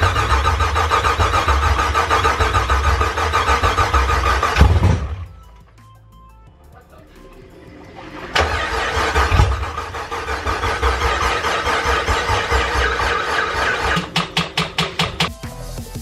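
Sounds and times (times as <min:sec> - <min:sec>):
engine cranking and running: 0:00.0 - 0:05.4, 0:07.3 - 0:15.2.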